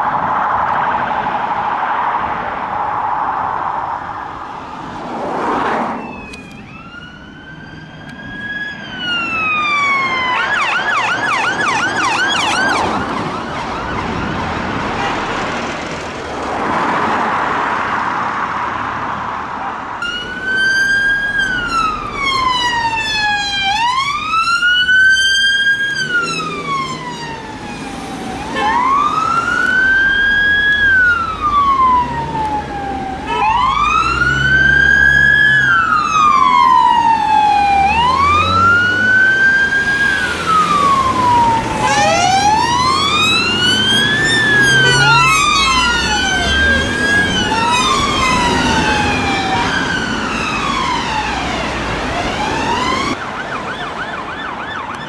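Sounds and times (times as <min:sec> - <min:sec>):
road traffic: 0:00.0 - 0:55.0
police siren wailing and yelping: 0:05.6 - 0:15.2, 0:20.0 - 0:55.0.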